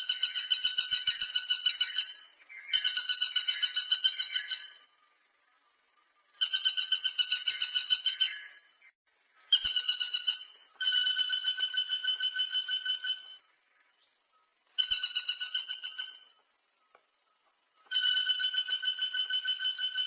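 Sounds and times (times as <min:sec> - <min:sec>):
woodpecker calling: 0:00.0 - 0:20.0.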